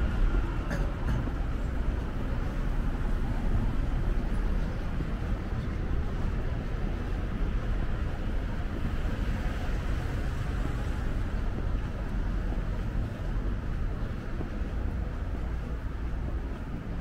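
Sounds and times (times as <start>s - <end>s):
traffic rumble: 0.0s - 17.0s
wind: 0.0s - 17.0s.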